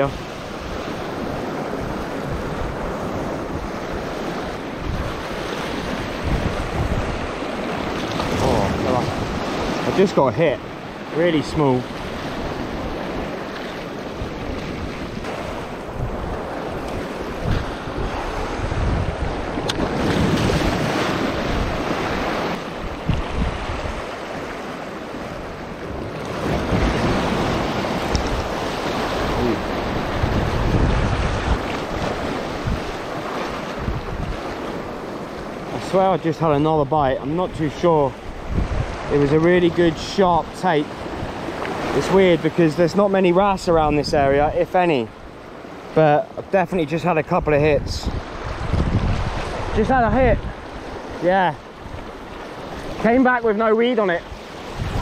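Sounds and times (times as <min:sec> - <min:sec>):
wind buffeting microphone: 0:00.0 - 0:45.8, 0:46.7 - 0:55.0
sea waves breaking over rocks: 0:00.0 - 0:55.0.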